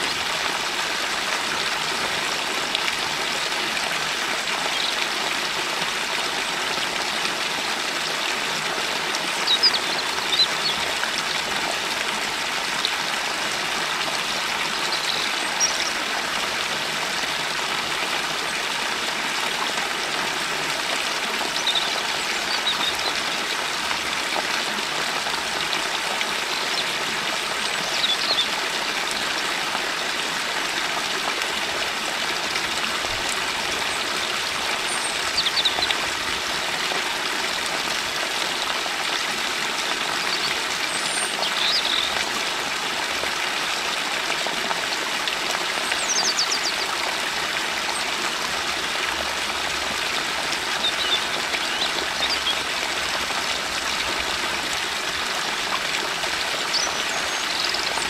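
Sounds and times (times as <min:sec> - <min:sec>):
stream trickling: 0:00.0 - 0:58.0.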